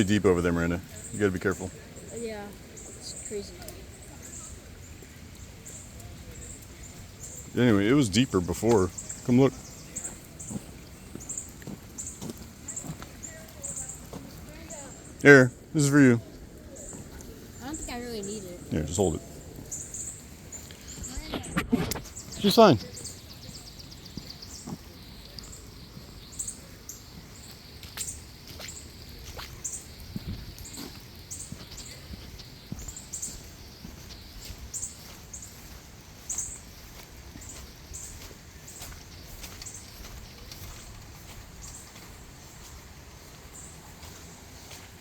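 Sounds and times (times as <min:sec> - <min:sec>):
faint outdoor background: 0:00.0 - 0:45.0
small birds chirping: 0:00.0 - 0:45.0.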